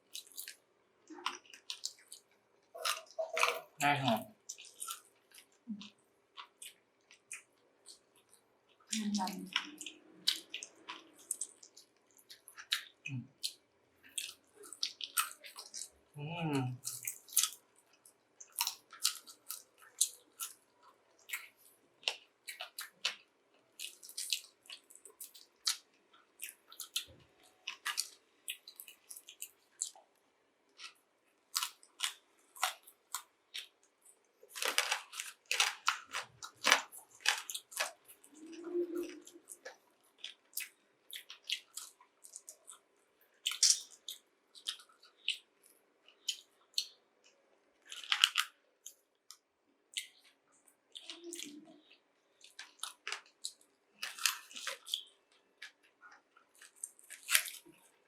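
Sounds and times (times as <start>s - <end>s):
chewing crispy chicken wings: 0.0s - 58.0s.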